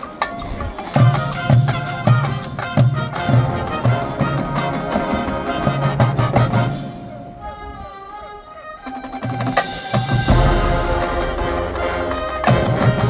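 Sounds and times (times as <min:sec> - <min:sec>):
marching band brass and drums: 0:00.0 - 0:07.4, 0:09.1 - 0:13.0.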